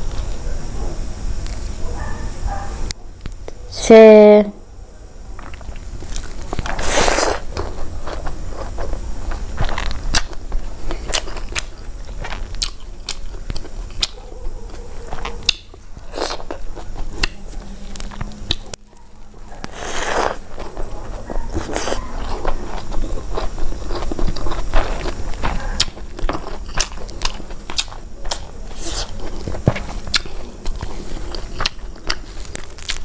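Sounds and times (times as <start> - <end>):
chewing and lip smacking: 5.4 - 33.0.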